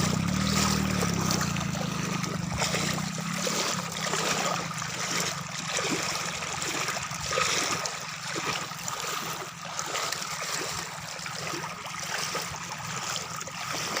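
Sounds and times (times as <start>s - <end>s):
floodwater gurgling: 0.0s - 14.0s.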